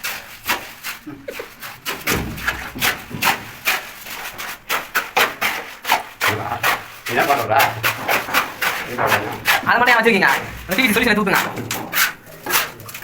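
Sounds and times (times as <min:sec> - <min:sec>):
hand tool rasping on hard surface: 0:00.0 - 0:13.0.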